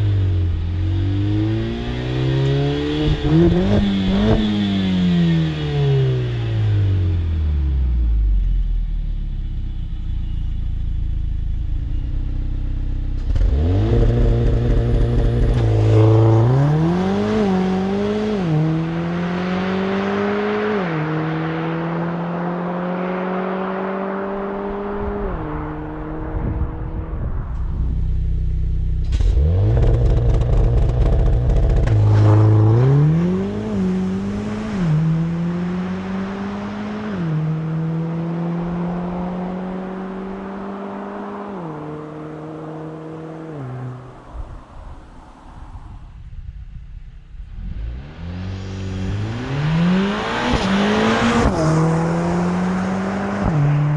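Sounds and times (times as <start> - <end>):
car engine accelerating hard: 0.0 - 8.6, 13.0 - 45.4, 47.3 - 53.9.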